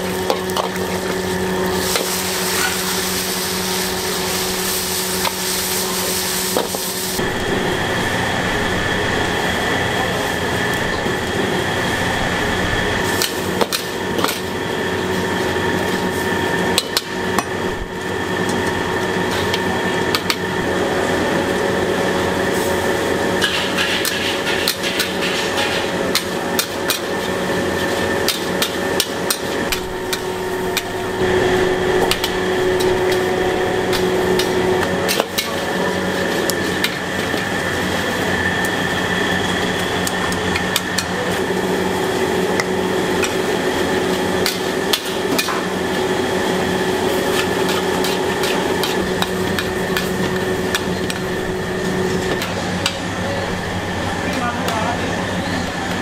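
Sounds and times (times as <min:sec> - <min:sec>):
mechanical hum: 0:00.0 - 0:56.0.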